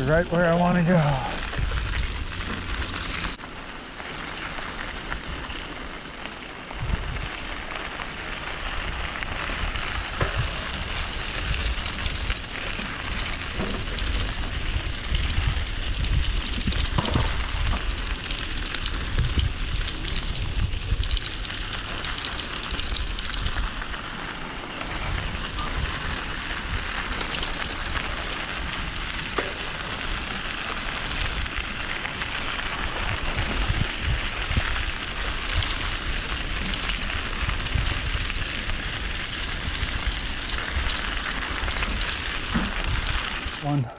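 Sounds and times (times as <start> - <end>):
crackling hiss: 0.0 - 43.9
wind buffeting microphone: 0.0 - 43.9.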